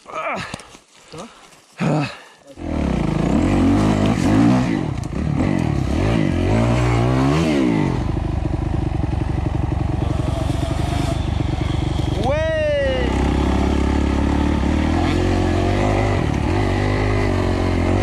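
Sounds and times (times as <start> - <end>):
motorcycle engine revving: 2.6 - 18.0.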